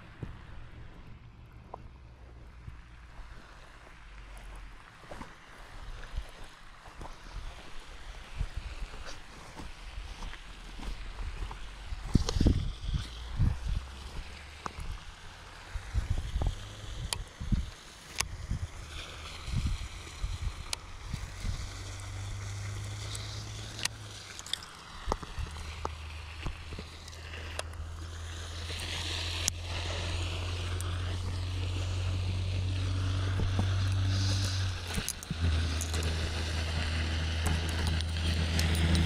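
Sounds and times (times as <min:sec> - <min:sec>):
boat engine hum: 0:00.0 - 0:39.0.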